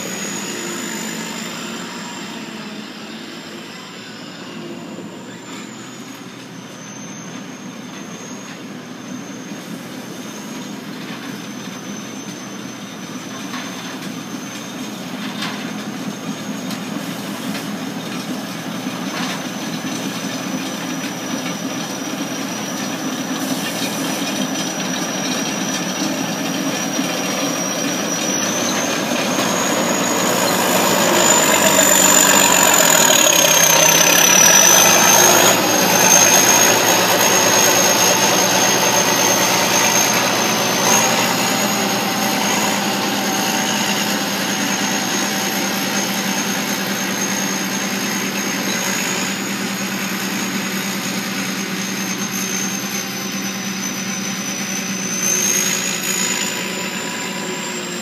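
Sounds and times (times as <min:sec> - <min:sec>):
combine harvester running: 0:00.0 - 0:58.0
high machine whine: 0:00.0 - 0:58.0.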